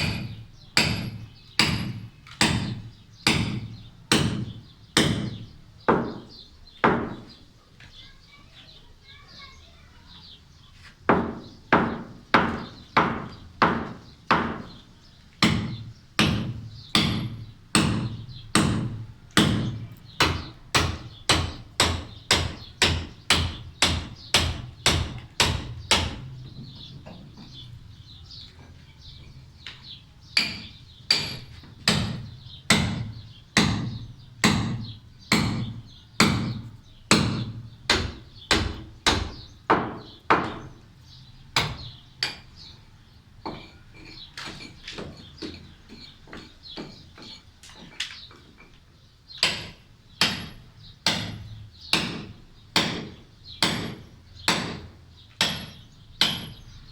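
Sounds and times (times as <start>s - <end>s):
hammer striking concrete: 0.0s - 7.3s, 11.1s - 14.8s, 15.4s - 26.7s, 30.4s - 40.8s, 41.6s - 42.5s, 43.4s - 48.7s, 49.4s - 56.8s.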